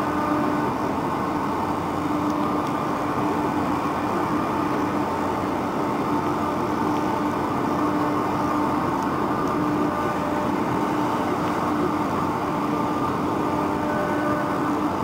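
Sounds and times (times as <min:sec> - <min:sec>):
ferry engines rushing noise: 0:00.0 - 0:15.0
machinery humming tones: 0:00.0 - 0:15.0.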